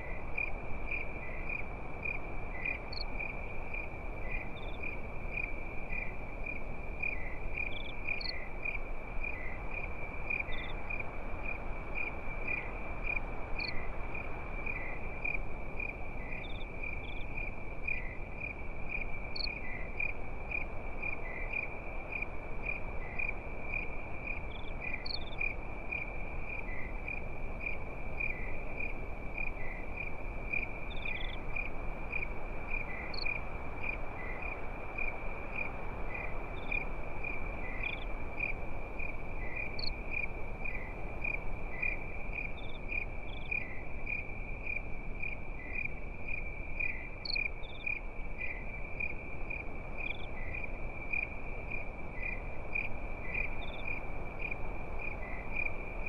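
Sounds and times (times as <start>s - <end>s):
crickets chirping: 0.0s - 56.0s
low hiss: 0.0s - 56.0s
short higher insect calls: 0.0s - 56.0s.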